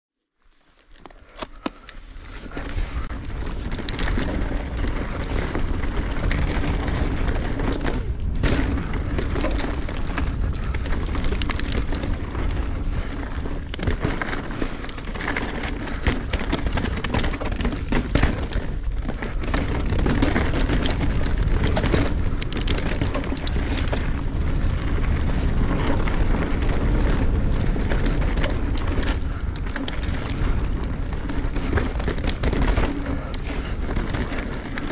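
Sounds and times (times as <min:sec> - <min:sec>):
bike rattling over rocks: 0:00.8 - 0:34.9
tyres rolling over dirt: 0:01.5 - 0:34.9
wind buffeting microphone: 0:01.8 - 0:34.9.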